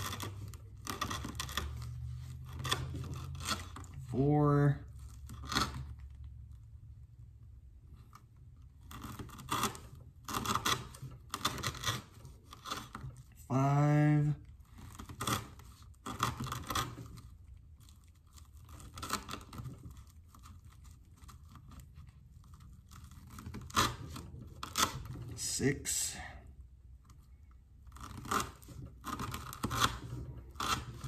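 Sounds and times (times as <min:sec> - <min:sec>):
knife sawing through rope: 0:00.0 - 0:05.9, 0:08.8 - 0:26.3, 0:27.9 - 0:31.0.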